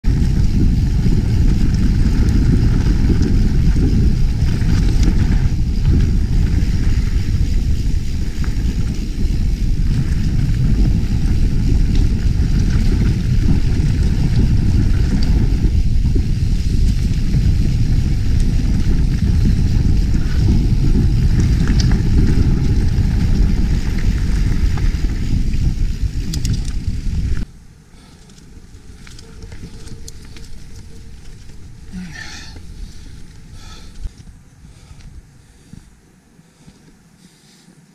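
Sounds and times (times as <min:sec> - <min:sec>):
wind on microphone: 0:00.0 - 0:36.8
tyres rumbling on dirt trail: 0:00.0 - 0:37.9.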